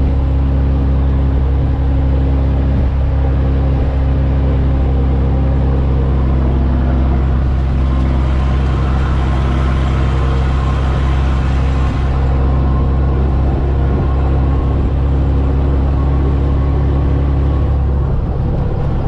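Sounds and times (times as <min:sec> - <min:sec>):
diesel truck engine droning: 0:00.0 - 0:19.0
road noise: 0:00.0 - 0:19.0.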